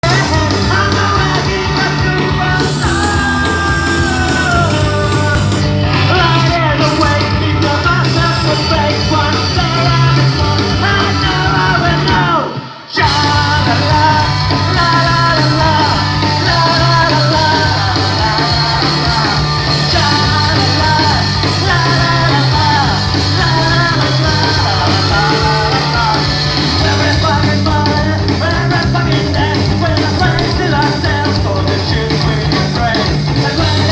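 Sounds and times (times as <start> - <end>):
lead singer singing: 0.0 - 33.9
rock band playing live: 0.0 - 33.9.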